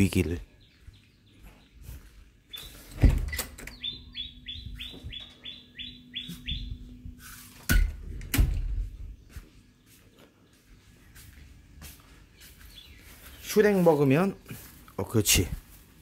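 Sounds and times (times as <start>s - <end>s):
bird chirping: 0.0s - 7.2s, 8.8s - 14.5s.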